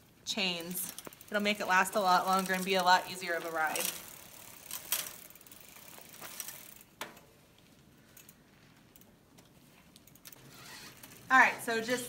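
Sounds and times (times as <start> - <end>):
bicycle chain turned by hand: 0.3 - 12.0.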